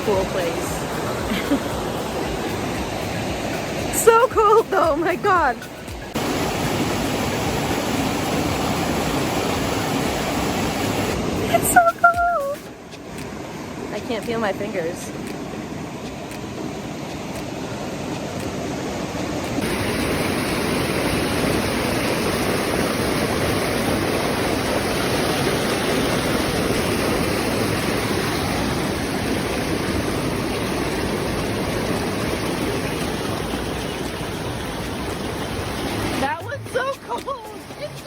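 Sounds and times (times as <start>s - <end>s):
water rushing over rocks: 0.0s - 38.0s.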